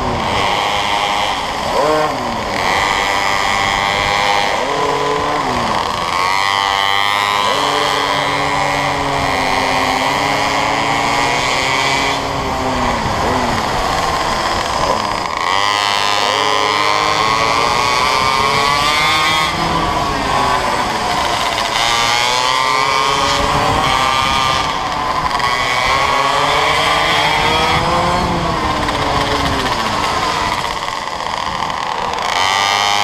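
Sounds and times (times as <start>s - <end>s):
mini-bike engines revving: 0.0s - 33.0s.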